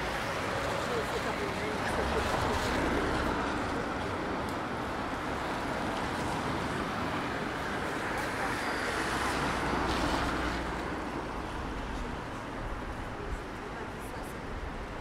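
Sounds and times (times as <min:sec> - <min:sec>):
city street traffic passing: 0:00.0 - 0:15.0.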